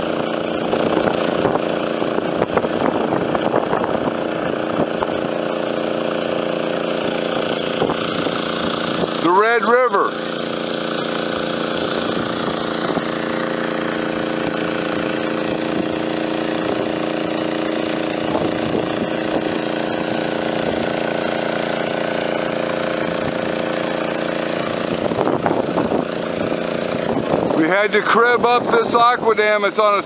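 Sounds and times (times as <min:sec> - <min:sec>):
small gasoline engine running: 0:00.0 - 0:30.0.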